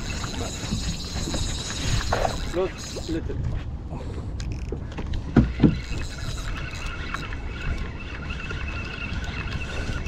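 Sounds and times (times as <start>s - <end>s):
motorboat engine whining: 0.0s - 3.2s, 5.2s - 10.0s
rushing wind and water: 0.0s - 10.0s.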